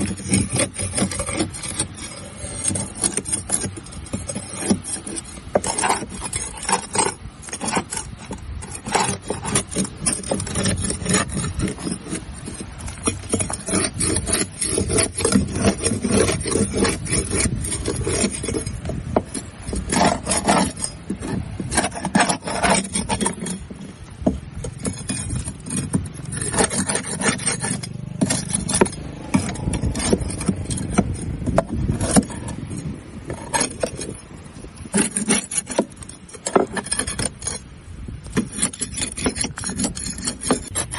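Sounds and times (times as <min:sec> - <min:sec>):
scraping barnacles off hull: 0:00.0 - 0:40.9.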